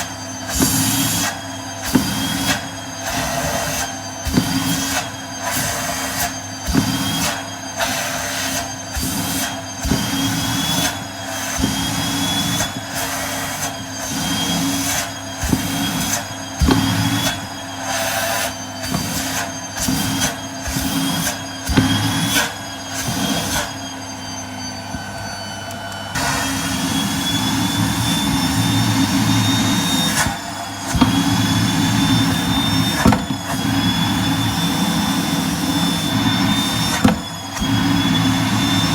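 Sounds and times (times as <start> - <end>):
vacuum cleaner motor whining: 0.0 - 38.9.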